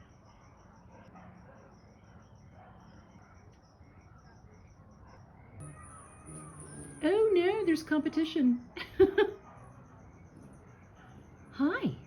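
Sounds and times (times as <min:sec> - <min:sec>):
high-pitched insect chirping: 0:00.0 - 0:12.0.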